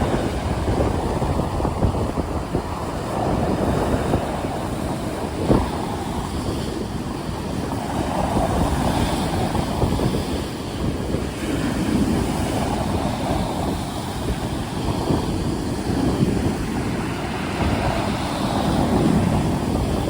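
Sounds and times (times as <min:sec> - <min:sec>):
rough sea waves surging: 0:00.0 - 0:20.0
wind buffeting microphone: 0:00.0 - 0:20.0.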